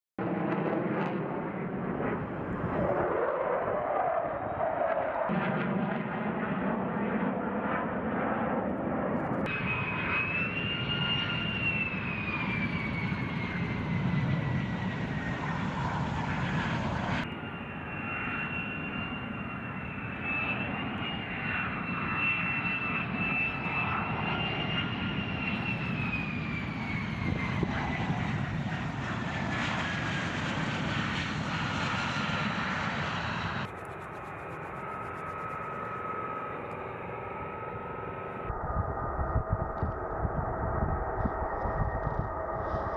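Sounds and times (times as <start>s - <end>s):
jet engines rushing with high whine: 0.2s - 42.9s.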